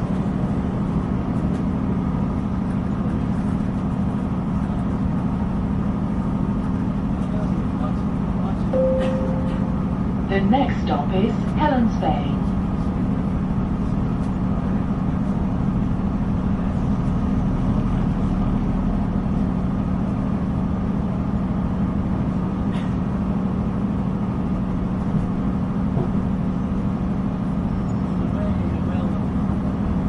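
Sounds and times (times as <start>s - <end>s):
train hum of engine and wheels: 0.0s - 30.0s.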